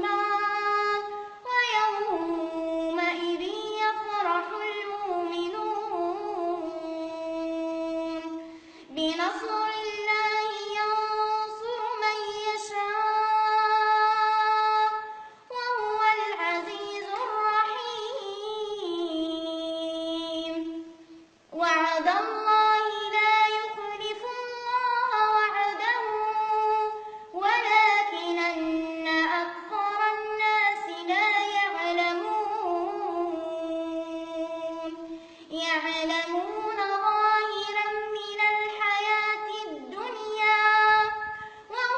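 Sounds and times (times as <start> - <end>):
child reciting melodically: 0.0 - 41.9.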